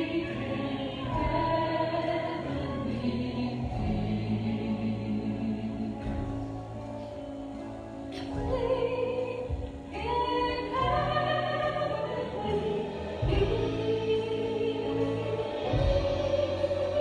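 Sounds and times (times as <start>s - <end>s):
people singing worship music: 0.0s - 7.5s, 8.1s - 17.0s.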